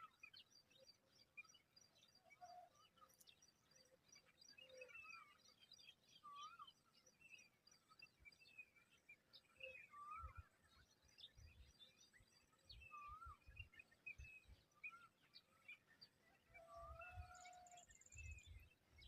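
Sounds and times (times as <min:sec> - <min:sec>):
whistled birdsong phrase: 0:00.0 - 0:19.0.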